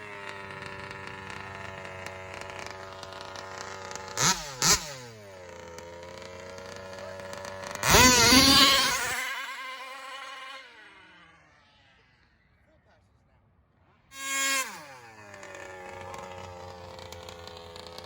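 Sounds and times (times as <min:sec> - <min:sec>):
small two-stroke engine idling and revving: 0:00.0 - 0:12.3, 0:14.2 - 0:18.0.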